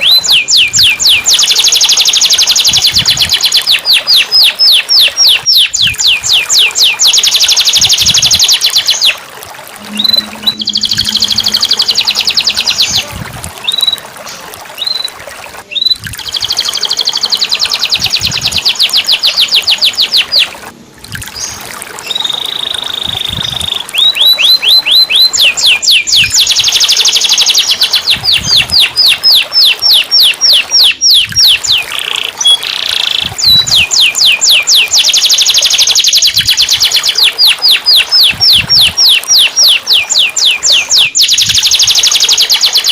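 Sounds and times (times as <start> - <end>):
canary singing trills: 0.0 - 9.2, 9.8 - 20.6, 21.3 - 42.9.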